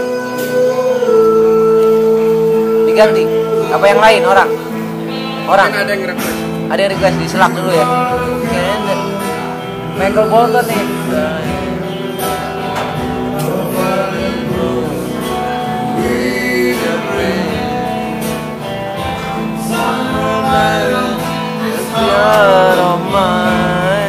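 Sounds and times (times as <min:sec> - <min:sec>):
guitar playing: 0:00.0 - 0:24.0
person singing: 0:00.0 - 0:24.0.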